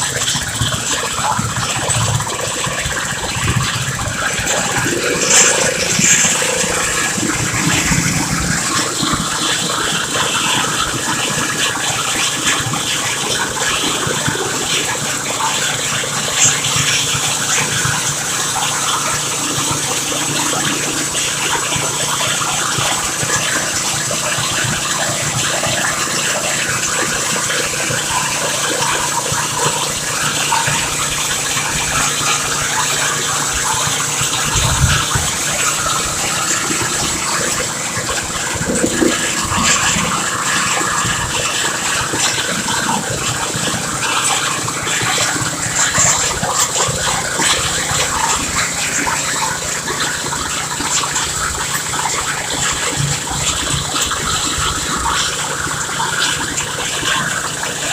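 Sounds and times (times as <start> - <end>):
engine running: 0.0 - 57.9
gushing water: 0.0 - 57.9.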